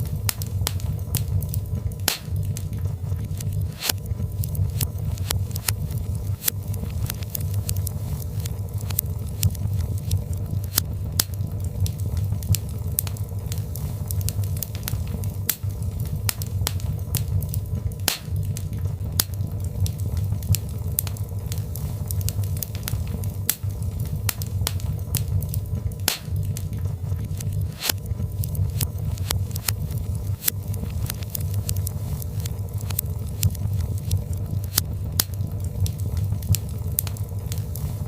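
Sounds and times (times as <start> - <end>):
fire crackling and popping: 0.0 - 38.0
low rumble of flames: 0.0 - 38.0.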